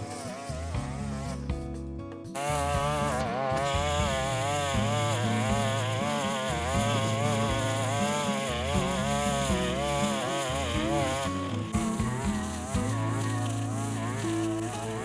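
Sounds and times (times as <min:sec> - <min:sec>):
small two-stroke engine running: 0:00.0 - 0:01.6, 0:02.4 - 0:15.0.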